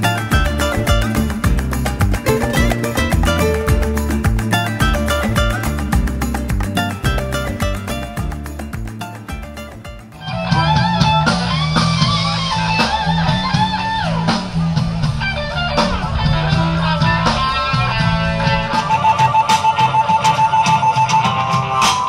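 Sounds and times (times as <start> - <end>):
steady bass line: 0.0 - 19.9
guitar bending melody notes: 0.0 - 22.0.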